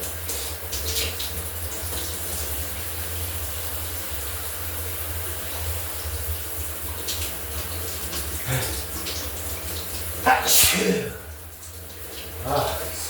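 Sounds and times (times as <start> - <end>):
shower water running: 0.0 - 13.0.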